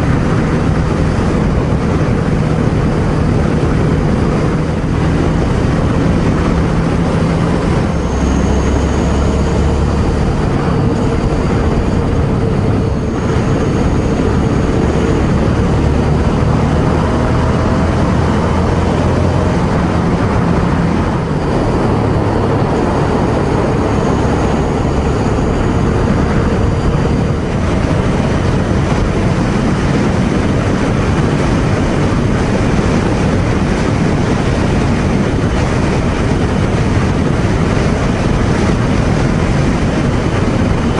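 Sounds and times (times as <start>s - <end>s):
motorcycle engine cruising: 0.0s - 40.9s
wind and road rush: 0.0s - 40.9s.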